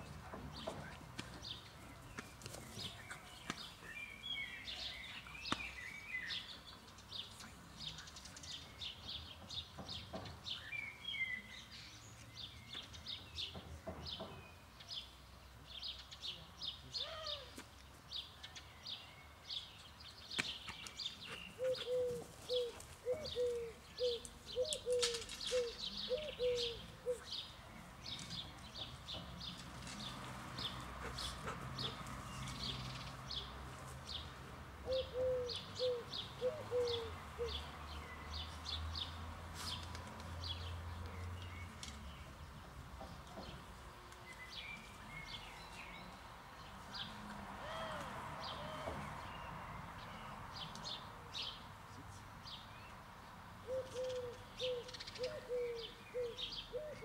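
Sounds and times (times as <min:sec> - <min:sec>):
small songbirds chirping: 0:00.0 - 0:57.0.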